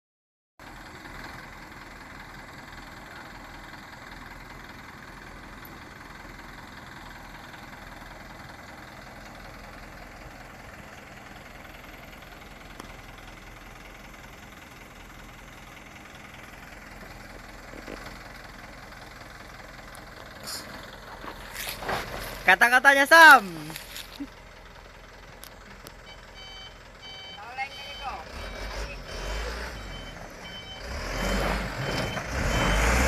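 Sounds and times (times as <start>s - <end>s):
diesel truck engines idling: 0.6s - 33.0s.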